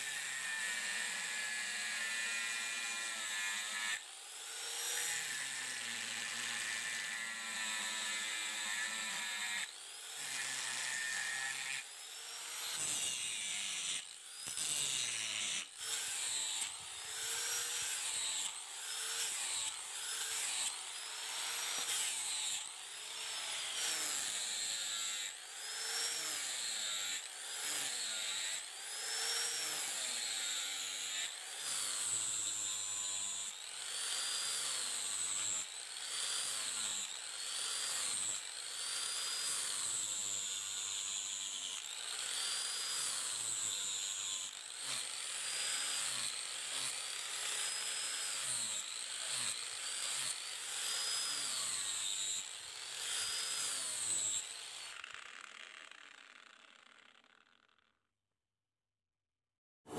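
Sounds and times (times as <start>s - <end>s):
power tool whining on steel: 0.0s - 57.7s.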